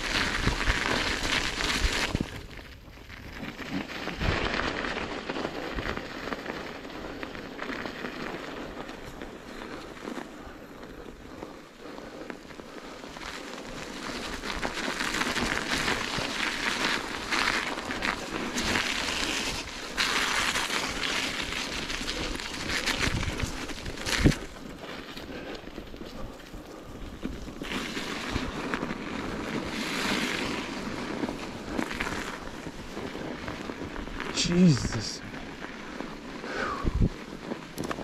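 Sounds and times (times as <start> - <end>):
bicycle tyres crunching on snow: 0.0 - 38.0.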